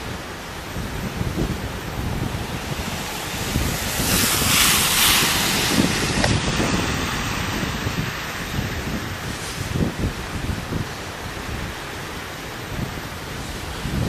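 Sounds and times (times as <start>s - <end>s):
steady rushing hiss: 0.0s - 14.0s
wind buffeting microphone: 0.0s - 14.0s.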